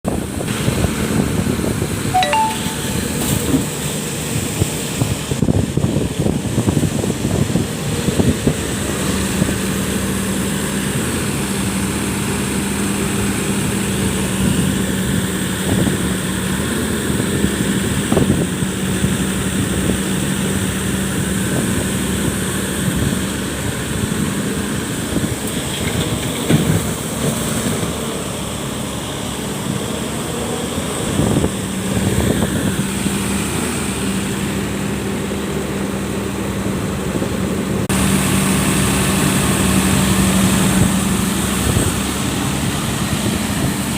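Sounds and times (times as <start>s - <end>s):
excavator diesel engine rumbling: 0.1s - 43.9s.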